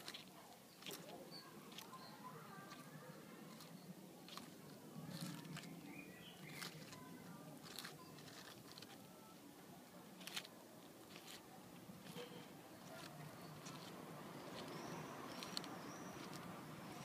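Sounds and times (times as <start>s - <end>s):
tortoise crunching lettuce: 0.0s - 17.0s.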